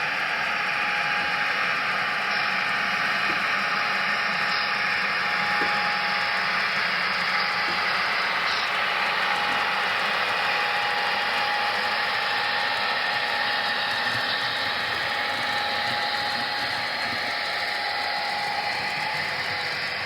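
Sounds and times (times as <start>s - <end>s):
model train mechanical hum: 0.0s - 20.0s.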